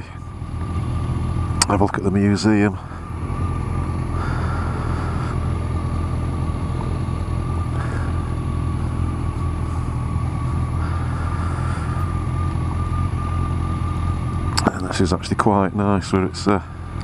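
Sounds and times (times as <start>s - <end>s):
motorcycle engine low rumble: 0.0s - 17.0s.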